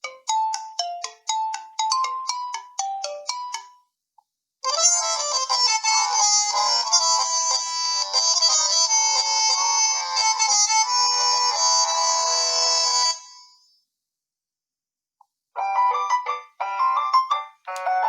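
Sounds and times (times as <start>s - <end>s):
phone ringtone melody: 0.0s - 3.7s, 4.7s - 13.6s, 15.6s - 18.0s.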